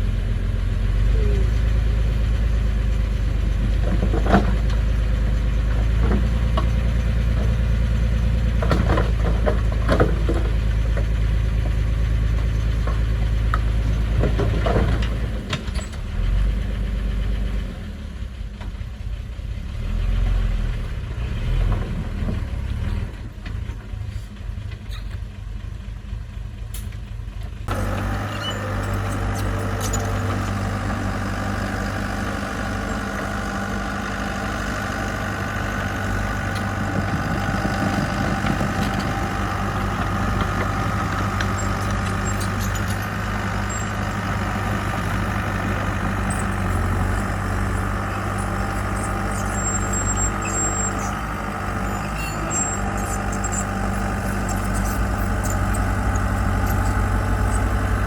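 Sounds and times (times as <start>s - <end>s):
heavy equipment engine running: 0.0s - 58.0s.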